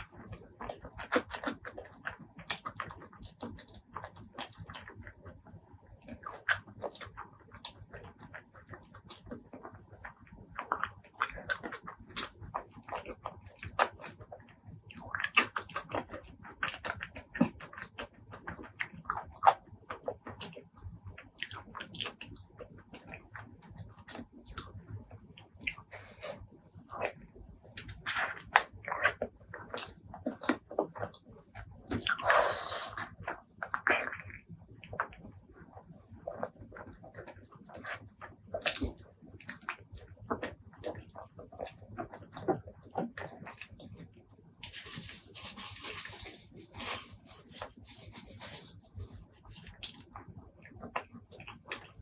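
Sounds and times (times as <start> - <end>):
chewing with wet mouth smacks: 0.0 - 5.3, 6.0 - 24.8, 25.4 - 44.0, 44.6 - 52.0.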